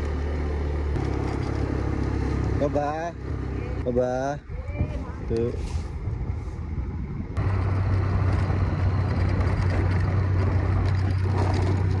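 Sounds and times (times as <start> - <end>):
vehicle running: 0.0 - 4.6, 5.2 - 12.0
low engine hum: 0.0 - 12.0.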